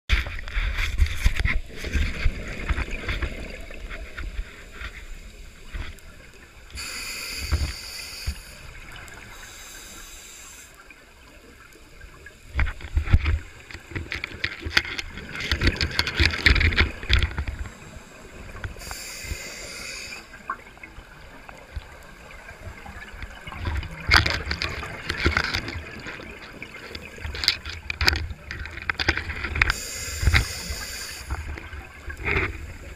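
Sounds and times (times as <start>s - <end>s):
underwater rumbling: 0.1s - 9.9s, 11.2s - 32.9s.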